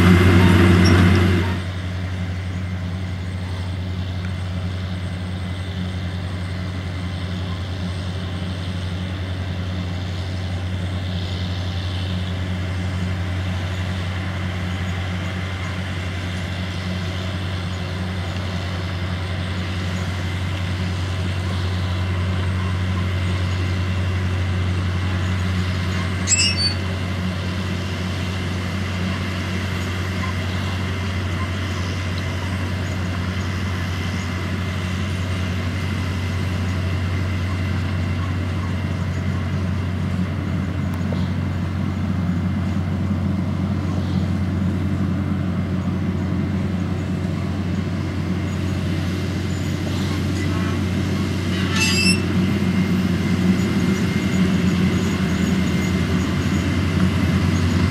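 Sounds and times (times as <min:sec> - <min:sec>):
harvester diesel engine droning: 0:00.0 - 0:57.9.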